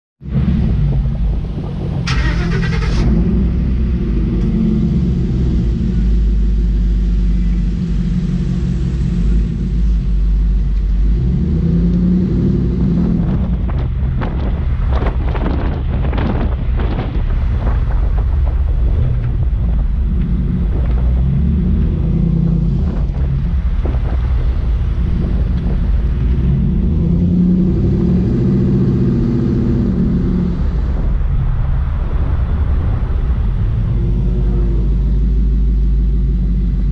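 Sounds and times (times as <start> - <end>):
heavy wind buffeting microphone: 0.2 - 36.9
low rumble of moving vehicle: 0.2 - 36.9.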